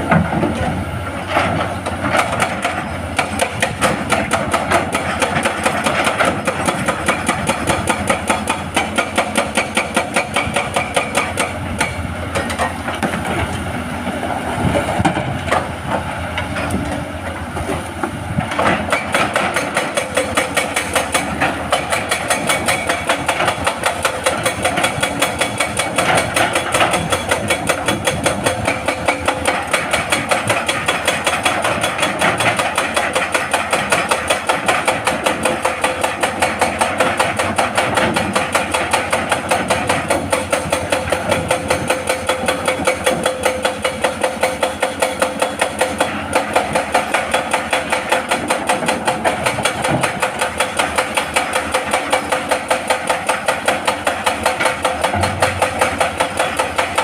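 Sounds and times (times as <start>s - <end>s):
diesel engine running: 0.0s - 57.0s
hydraulic breaker hammering rock: 0.0s - 57.0s.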